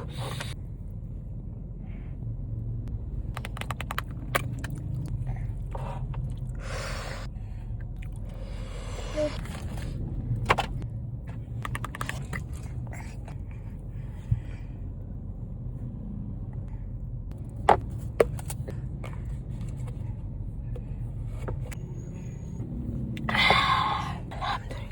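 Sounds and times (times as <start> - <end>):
low background hum: 0.0 - 24.9.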